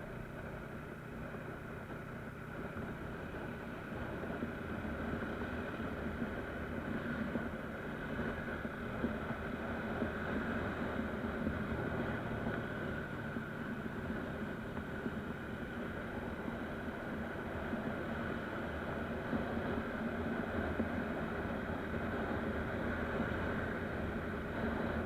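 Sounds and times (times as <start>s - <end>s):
motorcycle engine running: 0.0s - 25.0s
road noise: 0.0s - 25.0s
wind noise: 2.5s - 25.0s.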